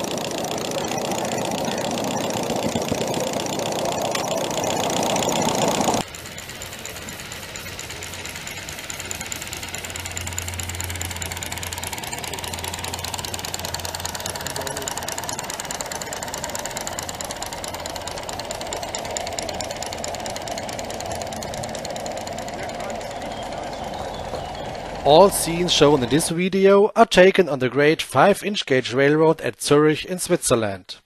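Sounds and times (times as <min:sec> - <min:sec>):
train rolling along track: 0:00.0 - 0:26.4
model steam locomotive exhaust beating: 0:00.0 - 0:26.5.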